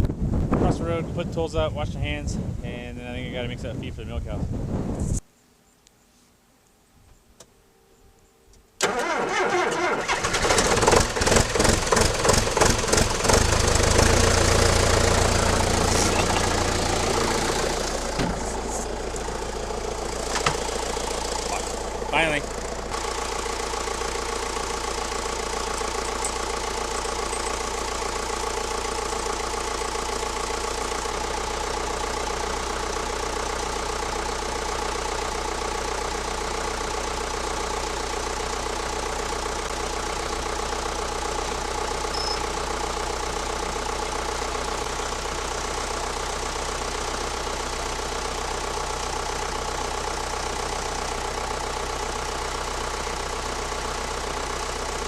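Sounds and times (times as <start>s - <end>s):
tractor diesel engine running: 8.8s - 55.0s.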